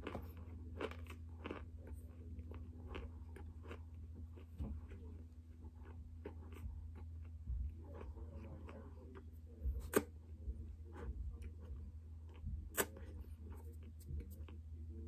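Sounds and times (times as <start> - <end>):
chewing with crunches and clicks: 0.0 - 15.0
low hum: 0.0 - 15.0.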